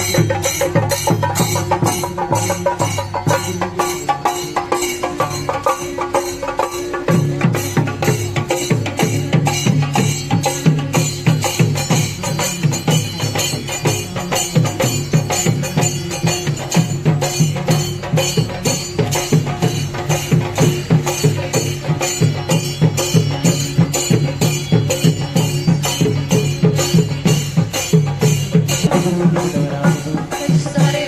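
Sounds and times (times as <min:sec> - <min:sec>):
drum ensemble playing: 0:00.0 - 0:31.0.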